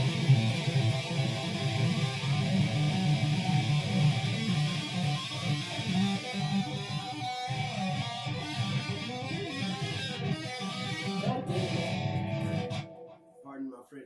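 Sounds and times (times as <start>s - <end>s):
guitar plucked and strummed: 0.0s - 13.4s.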